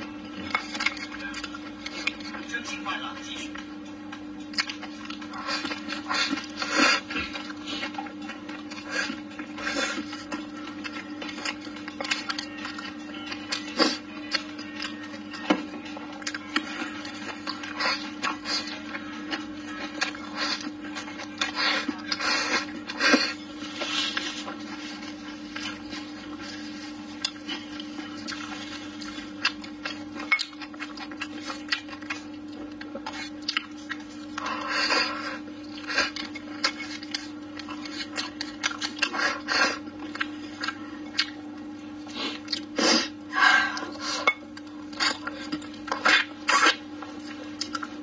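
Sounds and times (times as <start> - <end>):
steady low hum: 0.0 - 48.0
chewing and slurping: 0.1 - 48.0.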